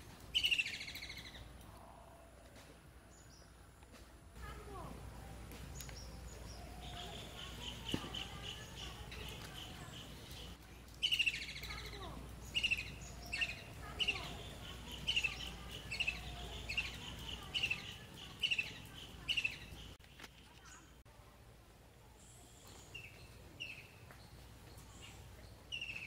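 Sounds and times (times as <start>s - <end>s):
bird chirping: 0.0s - 3.6s, 5.2s - 21.0s, 22.6s - 26.0s.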